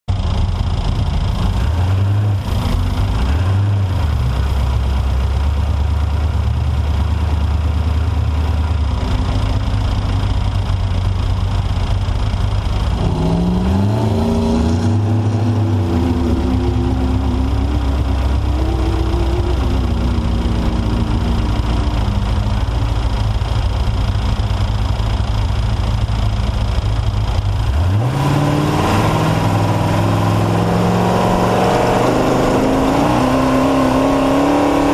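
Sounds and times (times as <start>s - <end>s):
truck engine revving: 0.1s - 34.9s.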